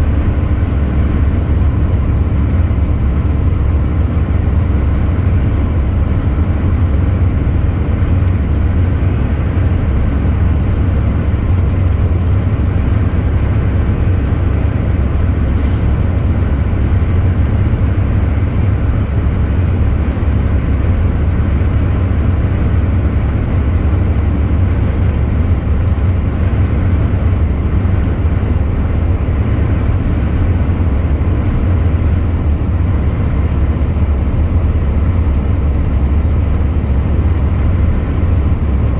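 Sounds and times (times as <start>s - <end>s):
truck engine and road noise: 0.0s - 38.9s.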